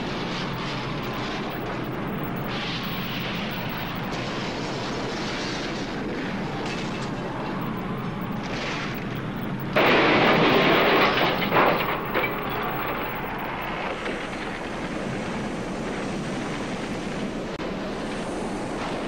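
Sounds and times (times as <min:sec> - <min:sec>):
blast wave rushing and rumbling: 0:00.0 - 0:16.8.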